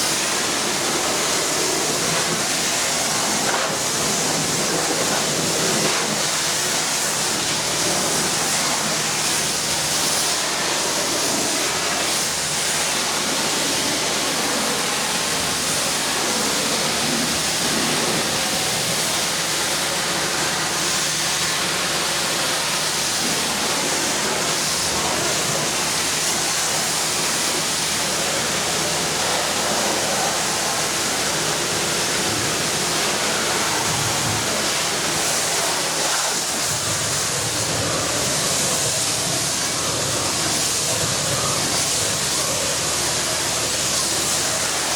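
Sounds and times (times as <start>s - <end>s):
pressure washer water jet hissing: 0.0s - 44.9s.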